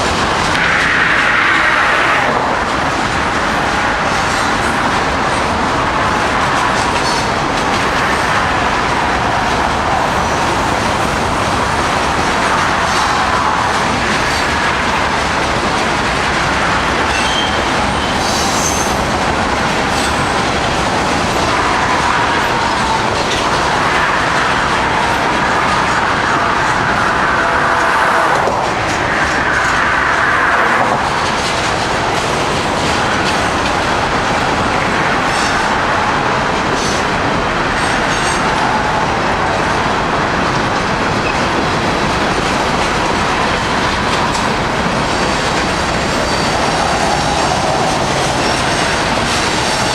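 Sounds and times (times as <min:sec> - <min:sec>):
train wheels clacking over rail joints: 0:00.0 - 0:49.9.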